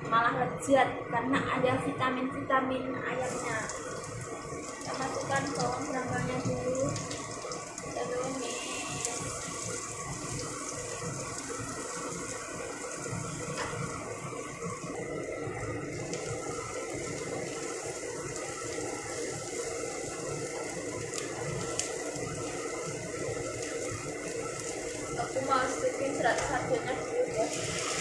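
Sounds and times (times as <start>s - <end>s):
shallots sizzling in hot oil: 3.2s - 28.0s.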